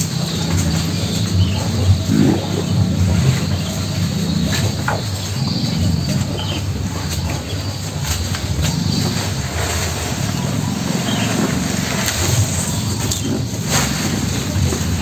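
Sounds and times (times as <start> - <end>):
birds chirping faintly: 0.0 - 15.0
cattle chewing grass: 0.0 - 15.0.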